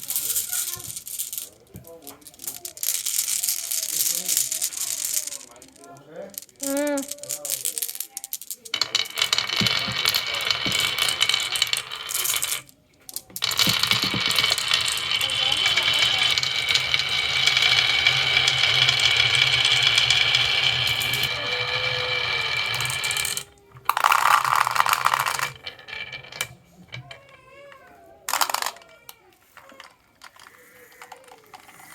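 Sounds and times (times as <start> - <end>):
wooden toy cars rolling on track: 0.0 - 31.9
wooden toys clattering: 0.0 - 31.9.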